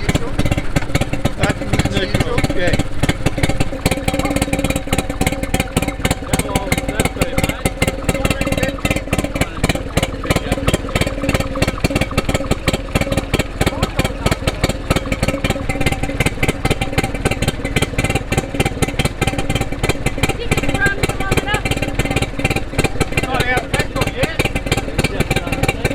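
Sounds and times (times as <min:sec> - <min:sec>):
marine engine running: 0:00.0 - 0:25.9.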